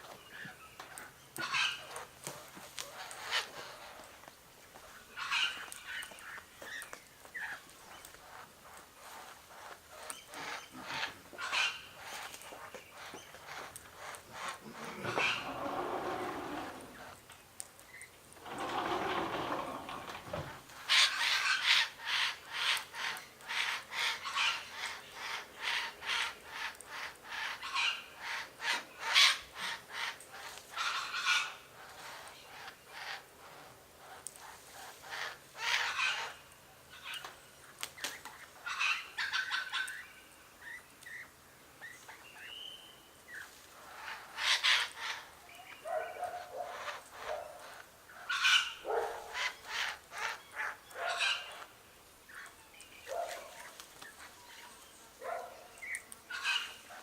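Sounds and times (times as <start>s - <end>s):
wild birds calling: 0.0s - 57.0s.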